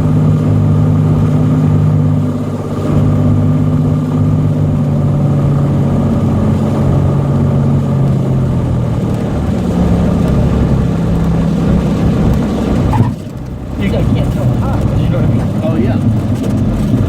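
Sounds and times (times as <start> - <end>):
aircraft engine and propeller drone: 0.0 - 17.0.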